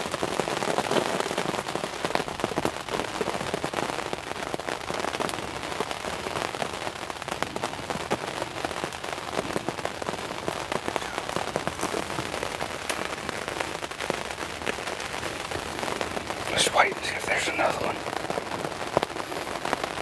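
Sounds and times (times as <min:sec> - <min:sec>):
heavy rain on fabric: 0:00.0 - 0:20.0.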